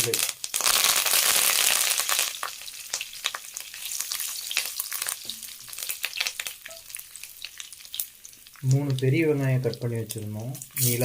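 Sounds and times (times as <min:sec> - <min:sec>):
seeds sizzling and popping in oil: 0:00.0 - 0:11.0.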